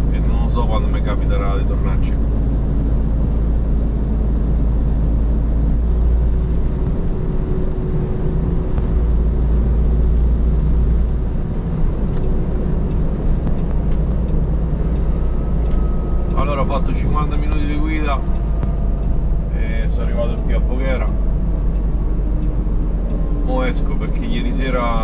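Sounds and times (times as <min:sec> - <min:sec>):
truck engine drone: 0:00.0 - 0:25.0
tyre and road noise: 0:00.0 - 0:25.0.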